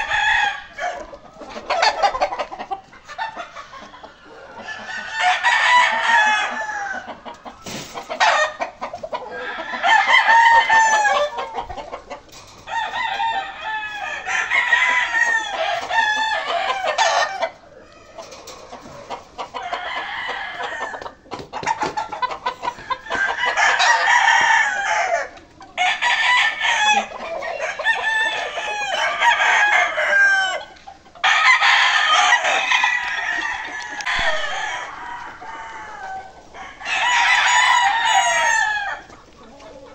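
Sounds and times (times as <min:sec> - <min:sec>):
roosters crowing: 0:00.0 - 0:39.9.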